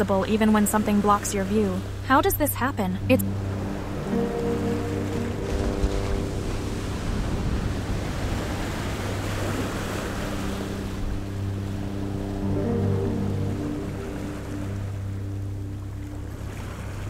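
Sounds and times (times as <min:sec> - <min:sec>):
sustained synth drone: 0:00.0 - 0:17.0.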